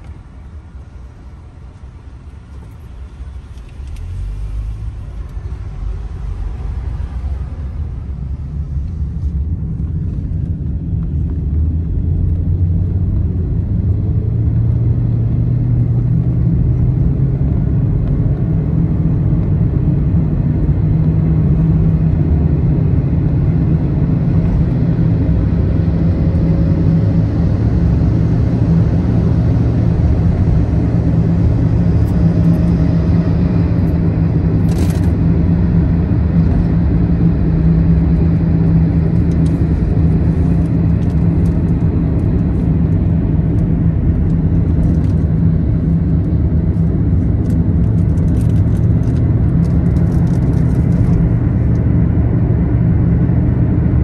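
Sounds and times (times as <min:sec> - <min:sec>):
car interior road noise: 0:00.0 - 0:54.0.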